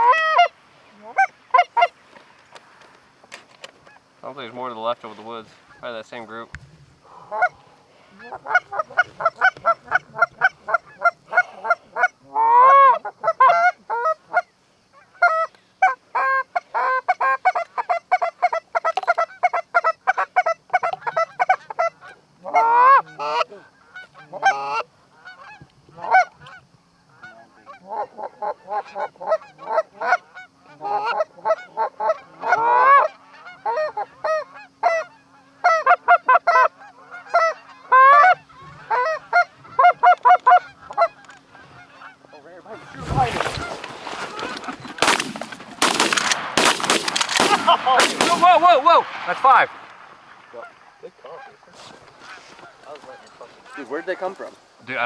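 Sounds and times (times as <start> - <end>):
goose honking: 0.0 - 2.2, 7.1 - 55.0.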